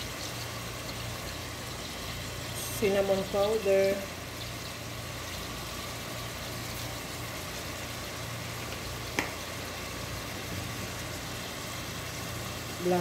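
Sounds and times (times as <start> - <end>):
low mechanical hum with hiss: 0.0 - 13.0.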